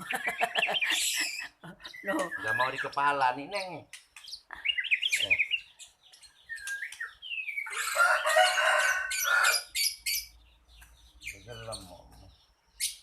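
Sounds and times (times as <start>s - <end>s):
bird chirping and calling: 0.0s - 13.0s.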